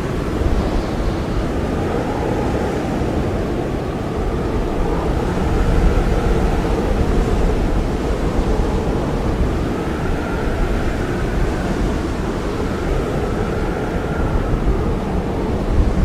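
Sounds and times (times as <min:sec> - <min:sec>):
blizzard wind blowing hard: 0:00.0 - 0:16.0
faint high whistle of wind: 0:00.0 - 0:16.0.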